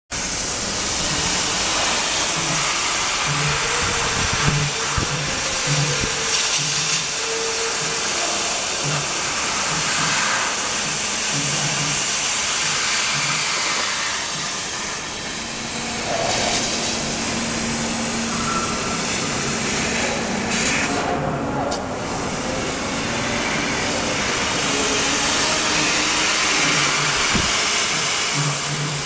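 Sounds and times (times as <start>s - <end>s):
low machine hum: 0.1s - 29.0s
gas jet hissing: 0.2s - 21.1s, 21.8s - 29.0s.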